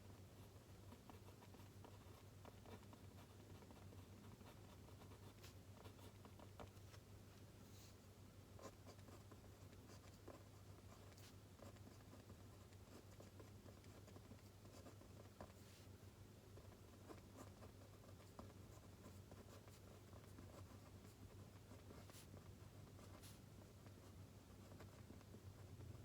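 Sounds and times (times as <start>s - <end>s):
pen scratching on paper: 0.4s - 7.0s, 8.6s - 15.9s, 16.6s - 25.3s.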